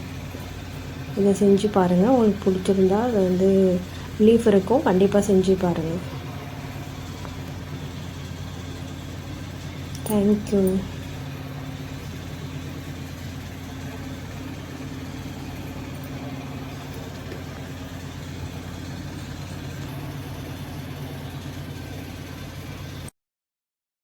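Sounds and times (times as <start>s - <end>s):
held low tones: 0.0s - 22.8s
low mechanical hum: 0.0s - 23.1s.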